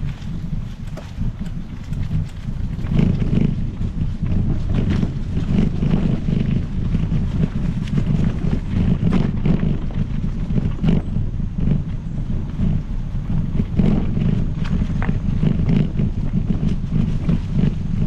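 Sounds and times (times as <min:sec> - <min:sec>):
bike tyres rolling on trail: 0:00.0 - 0:18.0
wind buffeting microphone: 0:00.0 - 0:18.0.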